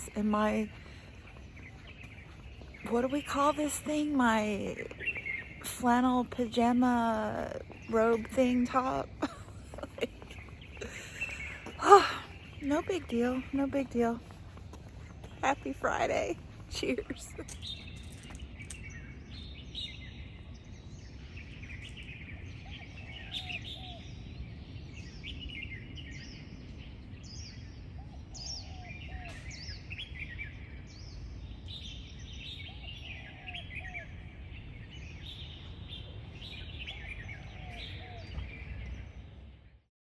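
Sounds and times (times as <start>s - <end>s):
birds chirping and singing: 0.0s - 39.4s.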